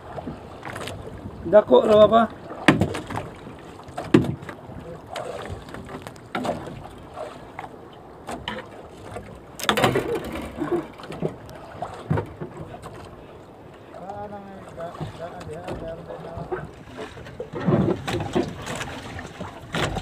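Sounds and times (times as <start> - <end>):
knocks and thumps against boat: 0.0 - 20.0.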